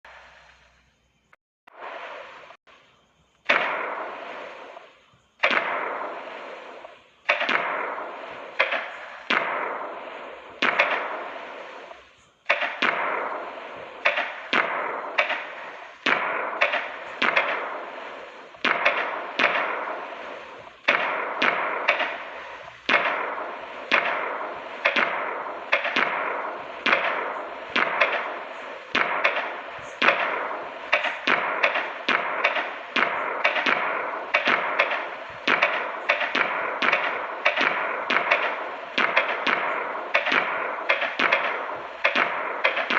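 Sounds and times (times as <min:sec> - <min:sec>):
firecracker bangs: 0:01.7 - 0:42.9.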